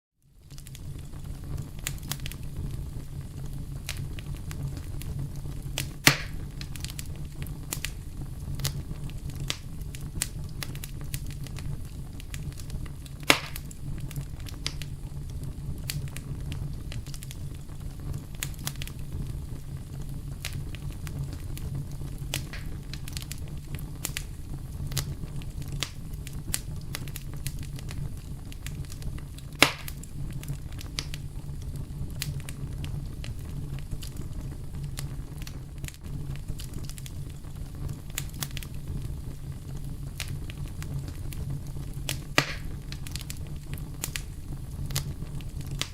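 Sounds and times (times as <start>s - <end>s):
campfire crackling: 0.3s - 45.9s
sharp pops of fire: 0.4s - 45.9s.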